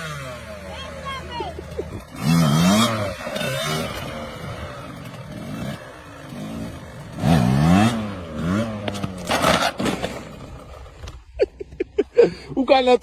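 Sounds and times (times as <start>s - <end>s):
dirt bike engine revving: 0.0s - 11.2s.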